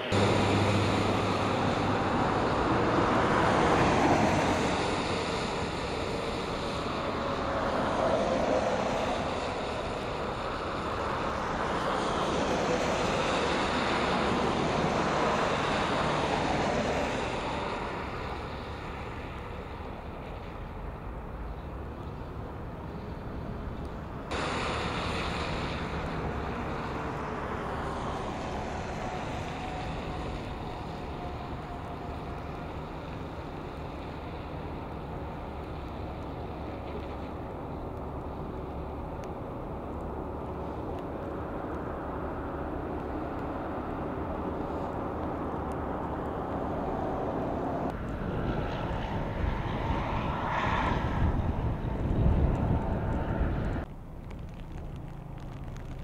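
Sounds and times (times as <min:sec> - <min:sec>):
highway traffic on wet road: 0:00.0 - 0:56.0.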